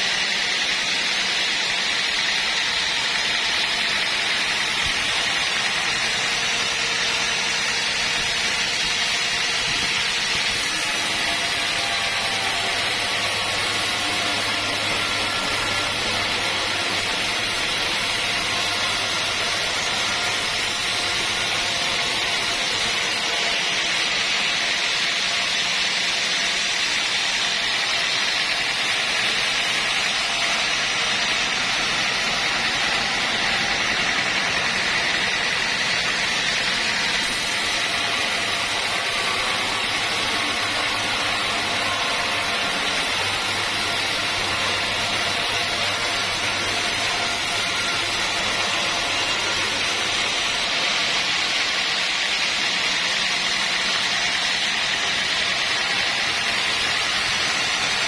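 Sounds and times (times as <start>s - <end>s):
saw cutting hiss: 0.0s - 58.0s.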